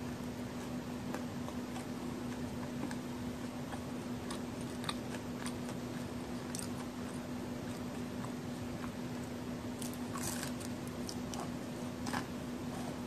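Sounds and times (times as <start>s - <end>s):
low hum and hiss: 0.0s - 13.0s
cookie crackling in fingers: 0.1s - 13.0s.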